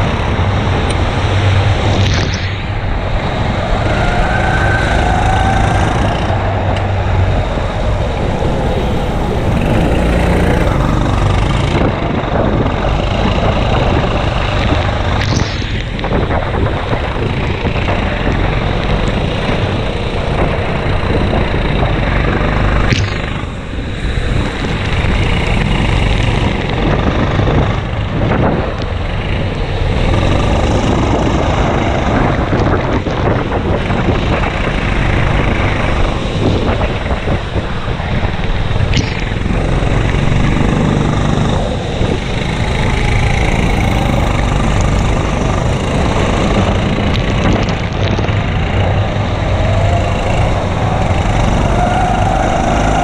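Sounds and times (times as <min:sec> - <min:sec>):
kart engine running hard: 0:02.8 - 0:53.0.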